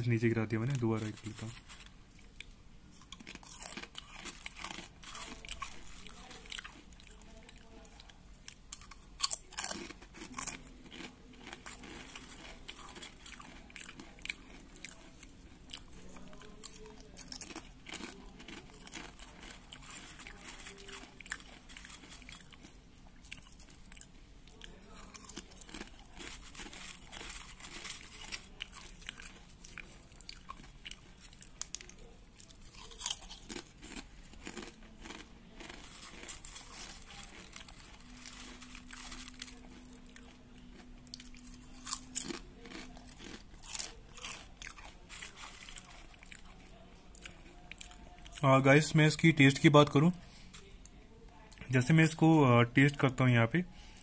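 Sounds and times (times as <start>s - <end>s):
person crunching crisp chips: 0.1s - 50.7s.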